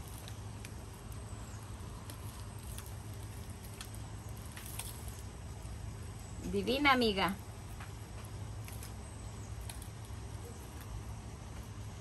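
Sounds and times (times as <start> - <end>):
dry leaves and soil rustling: 0.0 - 12.0
low background hum: 0.0 - 12.0.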